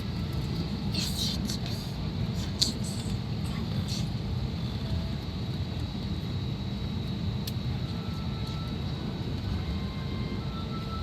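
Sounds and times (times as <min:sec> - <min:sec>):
aircraft cabin rumble: 0:00.0 - 0:11.0
faint steady whine: 0:00.0 - 0:11.0.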